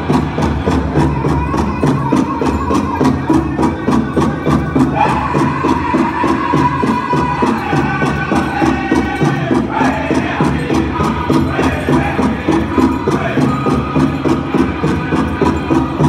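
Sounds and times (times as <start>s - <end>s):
fast even drumbeat: 0.0s - 16.0s
group chanting in high voices: 0.1s - 15.8s.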